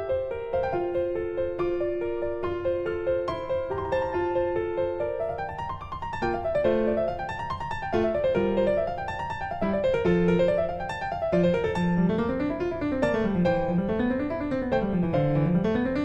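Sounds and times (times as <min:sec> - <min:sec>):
piano arpeggios: 0:00.0 - 0:16.0.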